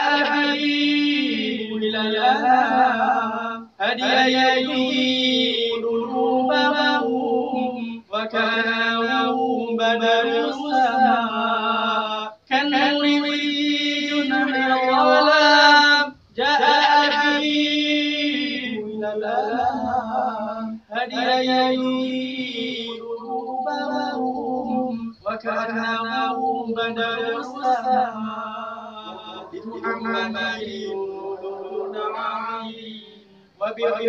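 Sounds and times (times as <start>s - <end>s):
man chanting: 0.0s - 5.8s, 6.5s - 23.0s, 23.7s - 34.0s.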